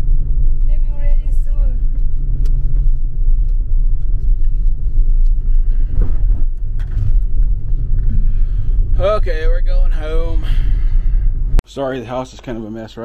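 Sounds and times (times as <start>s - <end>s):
road rumble inside moving car: 0.0s - 11.6s.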